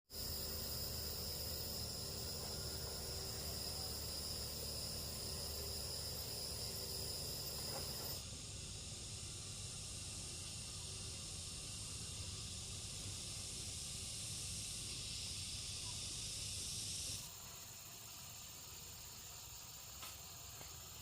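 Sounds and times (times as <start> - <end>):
insects chirring: 0.1 - 21.0.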